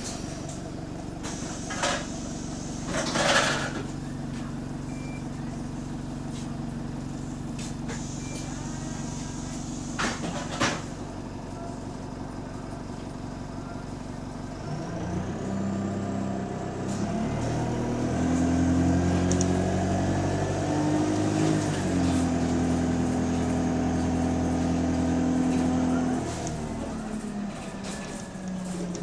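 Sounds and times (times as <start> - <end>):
bus engine accelerating: 0.0 - 29.0.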